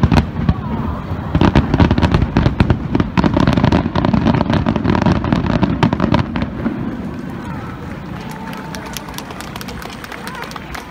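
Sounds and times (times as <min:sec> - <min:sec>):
fireworks booms and crackling: 0:00.0 - 0:10.9.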